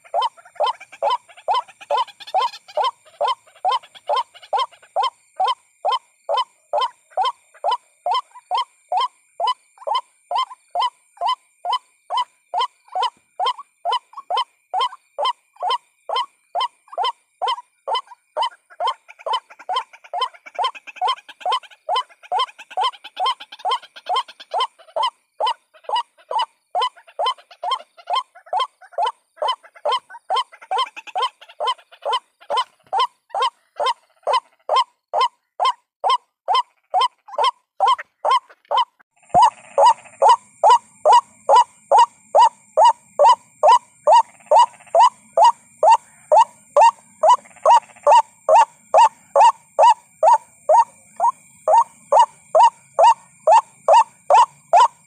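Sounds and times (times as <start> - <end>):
bird calling harsh kwak notes: 0.0 - 55.0.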